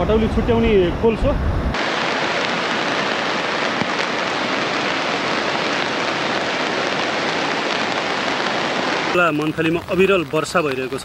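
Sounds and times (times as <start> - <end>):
steady rain: 1.7 - 11.0.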